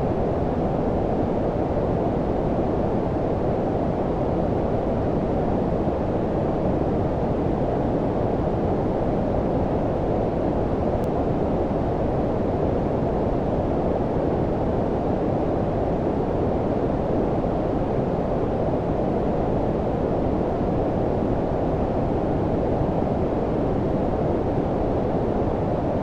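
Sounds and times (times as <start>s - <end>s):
low brown noise hiss: 0.0s - 26.0s.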